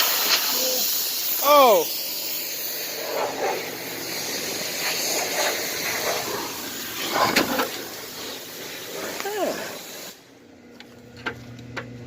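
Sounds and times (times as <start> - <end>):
pressure washer spray hissing: 0.0 - 10.3.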